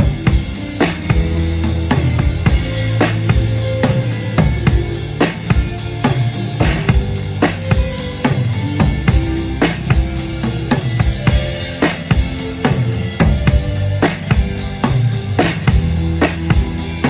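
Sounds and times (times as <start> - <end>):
bass line: 0.0 - 17.0
drum kit beat: 0.0 - 17.0.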